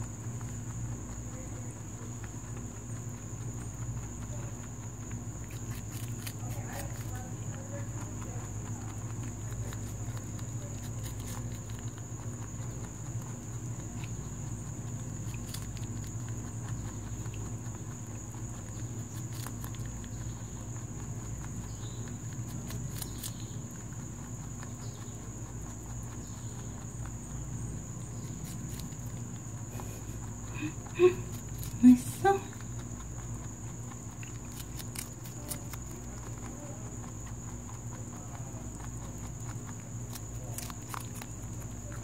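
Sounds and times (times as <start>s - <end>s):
rabbit chewing fruit: 0.0s - 42.0s.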